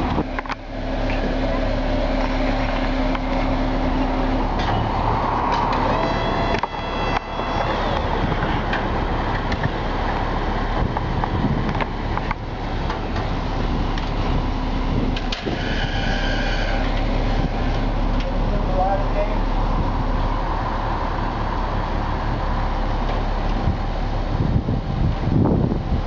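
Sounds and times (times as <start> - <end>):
high whine: 0.0 - 26.0
truck engine running: 0.0 - 26.0.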